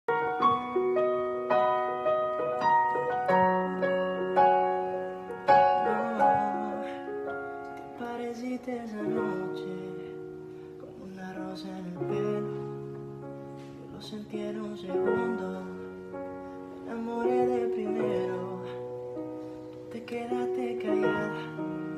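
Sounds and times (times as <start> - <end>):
soft piano-like keyboard notes: 0.1 - 21.9.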